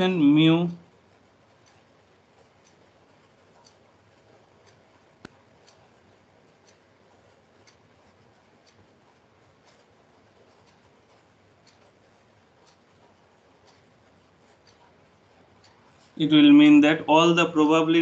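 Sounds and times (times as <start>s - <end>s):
faint ticks: 0.7s - 16.2s.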